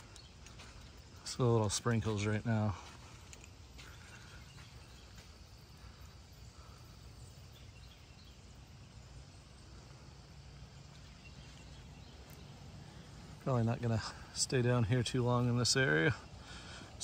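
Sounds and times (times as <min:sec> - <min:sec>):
light rain and drips: 0:00.0 - 0:17.0.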